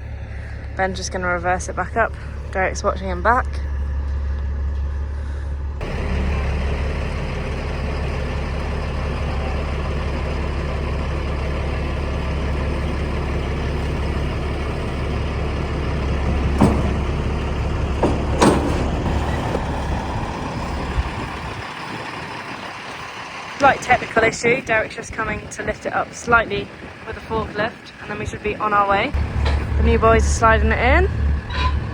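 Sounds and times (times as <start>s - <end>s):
diesel truck engine droning: 0.0s - 31.9s.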